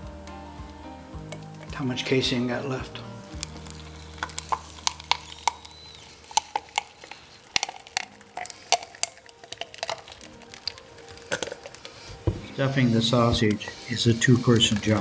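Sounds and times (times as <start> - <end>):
wet clicks of sausage stuffing: 2.9 - 15.0.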